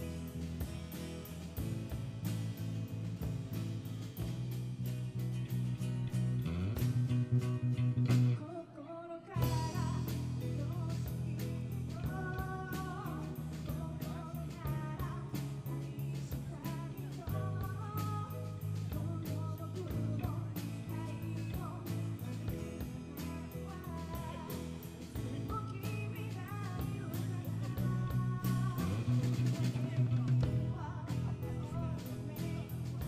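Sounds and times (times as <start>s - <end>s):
live rock band playing: 0.0s - 8.5s, 9.4s - 33.0s.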